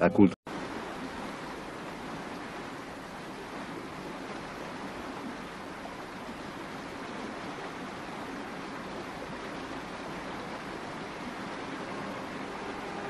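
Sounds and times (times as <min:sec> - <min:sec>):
water rushing over a weir: 0:00.5 - 0:13.0.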